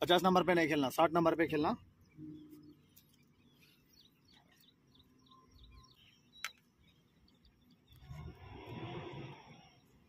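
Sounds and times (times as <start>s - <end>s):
faint small bird chirping: 1.7s - 10.0s.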